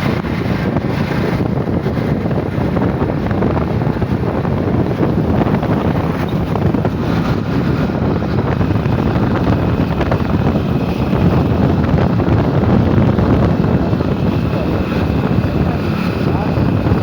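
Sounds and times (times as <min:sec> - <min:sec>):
heavy rain: 0:00.0 - 0:17.0
wind buffeting microphone: 0:00.0 - 0:17.0.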